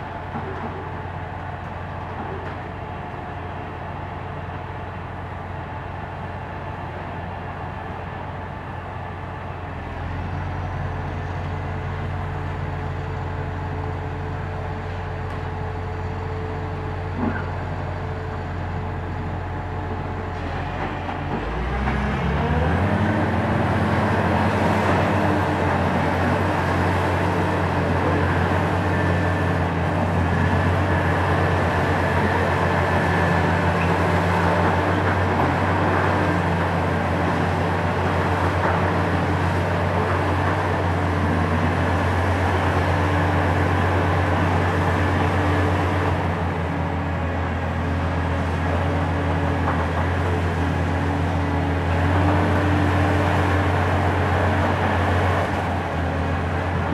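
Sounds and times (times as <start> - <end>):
excavator diesel engine revving: 9.8 - 56.9.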